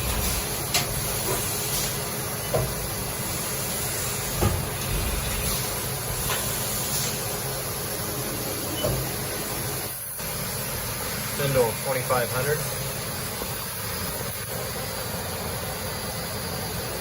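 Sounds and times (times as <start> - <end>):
machine running with hiss: 0.0 - 17.0.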